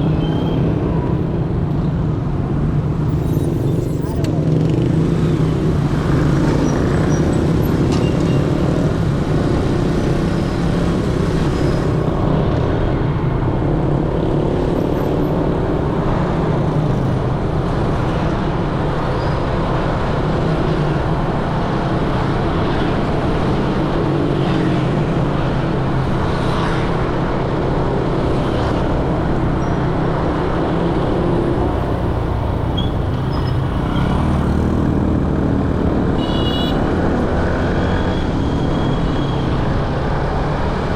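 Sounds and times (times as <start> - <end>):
dense street traffic: 0.0 - 40.9.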